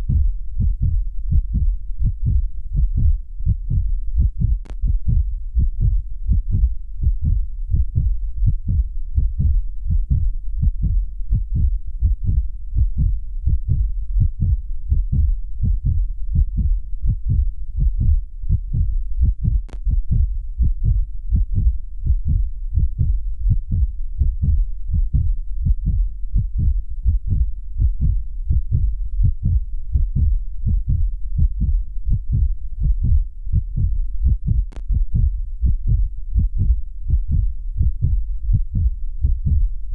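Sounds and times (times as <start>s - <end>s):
human heartbeat thumps: 0.0s - 39.9s.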